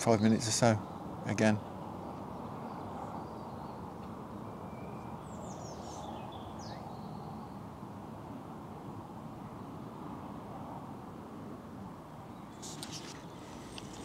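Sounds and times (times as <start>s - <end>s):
faint birds chirping: 0.0s - 10.6s, 12.1s - 14.0s.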